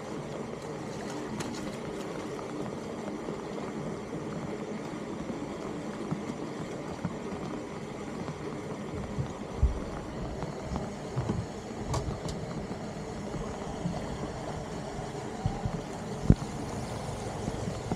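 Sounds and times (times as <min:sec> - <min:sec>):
rain falling on flooded street: 0:00.0 - 0:17.9.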